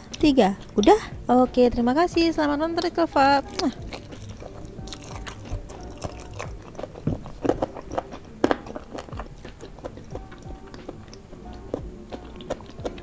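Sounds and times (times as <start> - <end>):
mouth chewing clicks: 0.0 - 1.2, 1.9 - 13.0.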